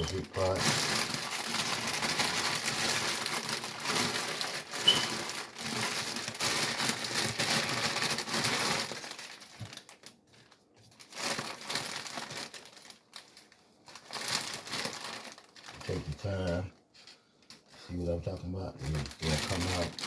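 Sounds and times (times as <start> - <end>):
leafy greens rustling and crunching: 0.0 - 10.1, 10.9 - 16.6, 18.8 - 20.0.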